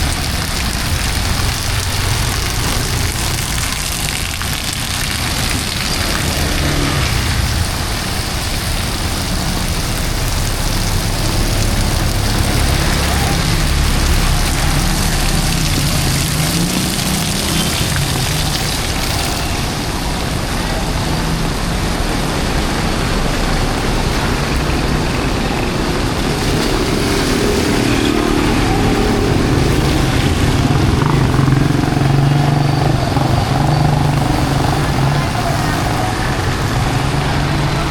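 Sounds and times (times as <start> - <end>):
heavy rain on street: 0.0 - 37.9
vehicles passing on wet road: 0.0 - 37.9.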